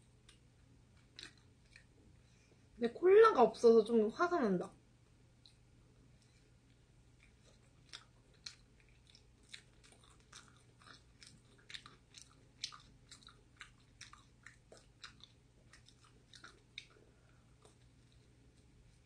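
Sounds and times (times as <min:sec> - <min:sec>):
person chewing pizza: 0:00.0 - 0:02.4, 0:05.4 - 0:19.0.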